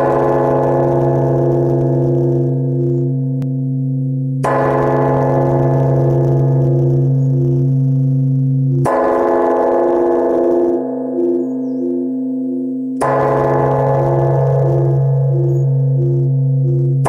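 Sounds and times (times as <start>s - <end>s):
large bronze bell ringing: 0.0s - 17.0s.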